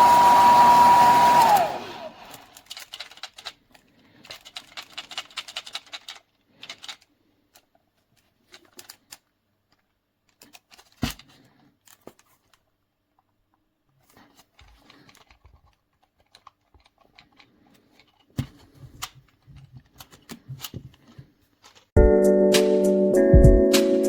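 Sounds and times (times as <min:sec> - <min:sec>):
small light clicks and rattles: 0:02.5 - 0:22.0.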